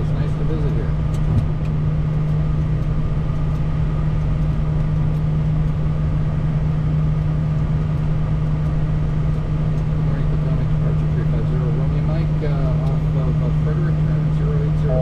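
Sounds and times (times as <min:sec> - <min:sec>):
jet cockpit engine and airflow noise: 0:00.0 - 0:15.0.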